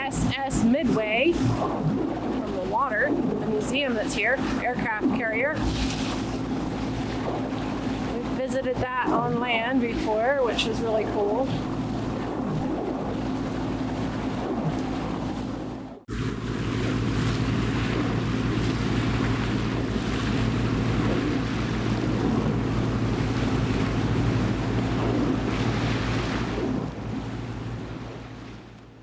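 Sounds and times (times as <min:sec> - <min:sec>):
wind buffeting microphone: 0:00.0 - 0:28.7
boat engine hum: 0:00.0 - 0:29.0
water rushing along hull: 0:00.0 - 0:29.0.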